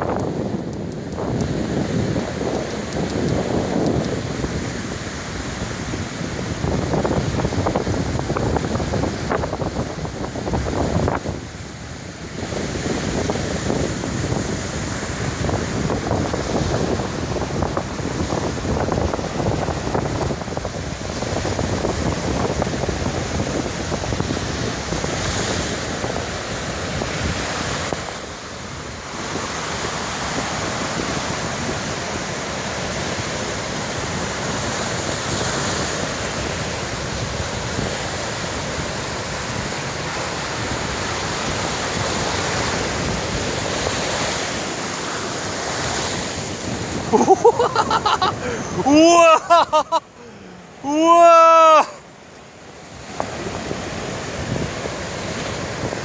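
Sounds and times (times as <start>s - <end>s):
wind buffeting microphone: 0.0s - 50.1s, 52.7s - 56.0s
sea waves breaking on beach: 0.0s - 56.0s.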